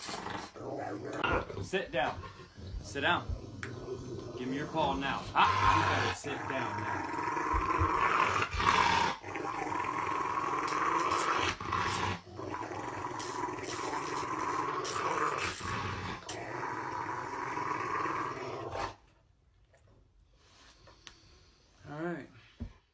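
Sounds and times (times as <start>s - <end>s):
dog growling: 0.0s - 19.0s.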